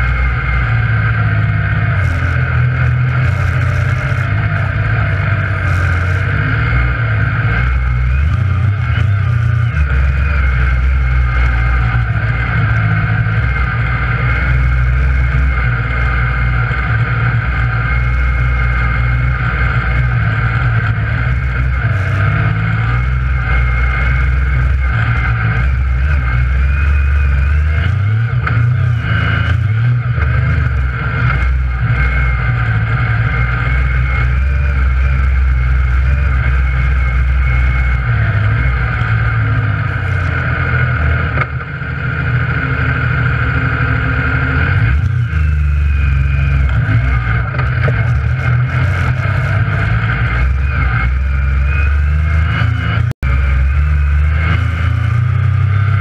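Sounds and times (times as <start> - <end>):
engine running under way: 0.0 - 56.0.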